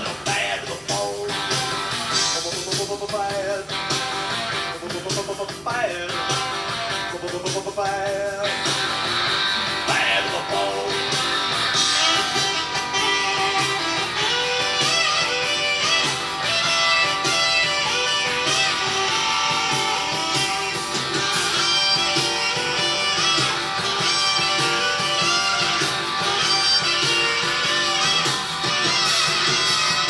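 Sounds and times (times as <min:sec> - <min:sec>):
blues-rock electric guitar music: 0:00.0 - 0:30.0.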